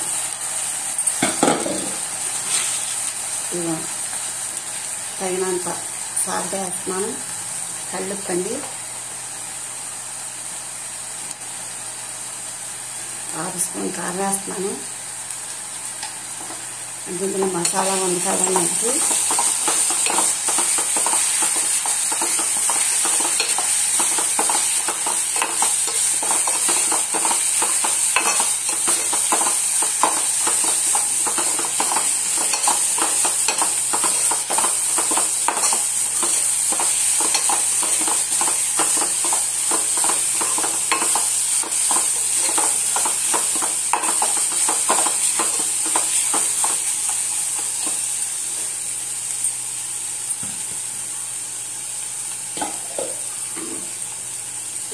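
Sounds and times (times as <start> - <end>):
food sizzling in a pot: 0.0 - 54.9.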